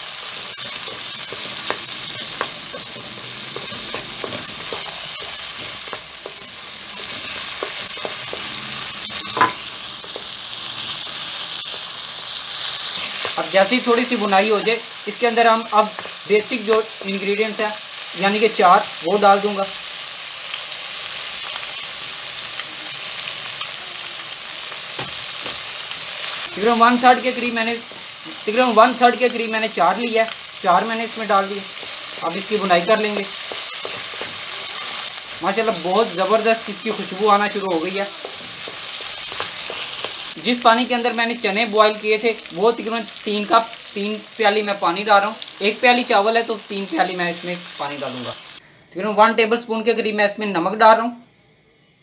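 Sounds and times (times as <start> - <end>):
chickpeas sizzling in oil: 0.0 - 48.6.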